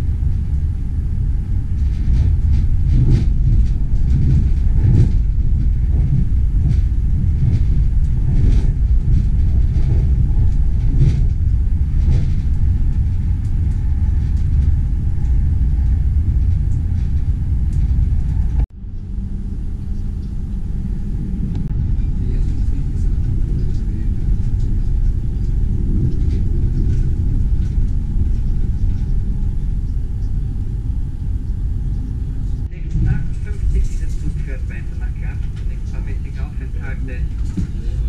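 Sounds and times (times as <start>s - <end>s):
moving train rumble: 0.0s - 38.0s
quiet steady hum: 0.0s - 38.0s.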